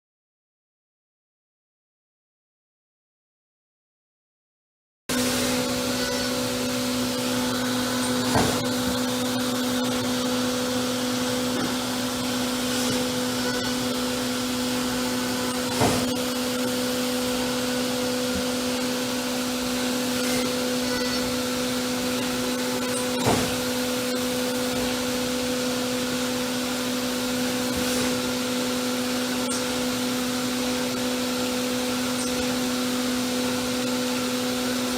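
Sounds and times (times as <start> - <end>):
machining center humming: 5.1 - 34.9.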